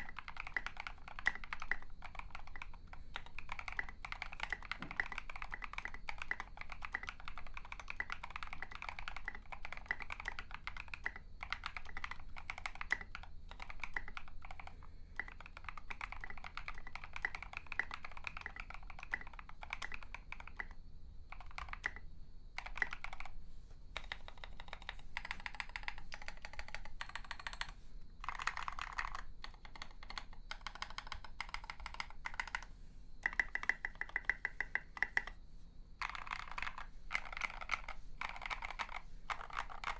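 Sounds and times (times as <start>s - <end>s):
mechanical keyboard typing: 0.0s - 23.4s, 24.0s - 35.4s, 36.0s - 39.9s.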